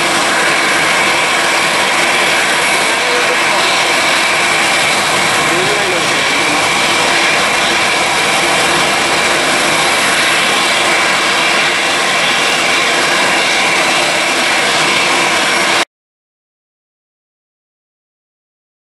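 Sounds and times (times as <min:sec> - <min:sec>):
jet engines roaring: 0:00.0 - 0:15.8.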